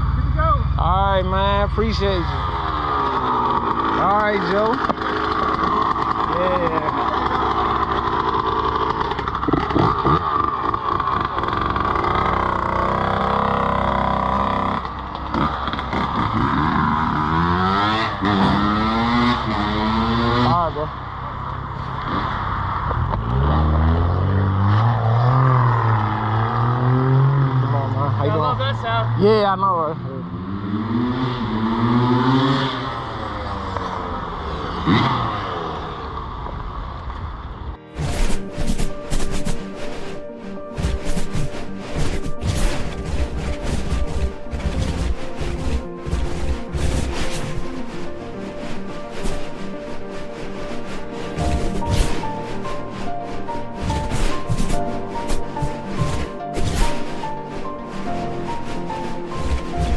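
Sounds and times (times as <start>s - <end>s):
dirt bike engine revving: 0.0s - 21.0s, 23.1s - 28.0s, 30.2s - 36.3s, 37.8s - 59.9s.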